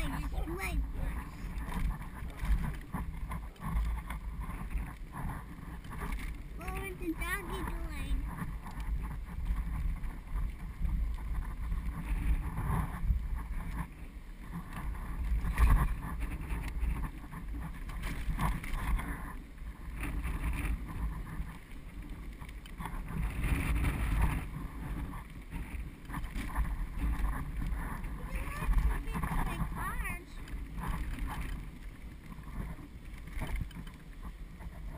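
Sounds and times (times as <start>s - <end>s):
trailer wheels rumbling: 0.0s - 34.9s
wind on microphone: 0.0s - 34.9s.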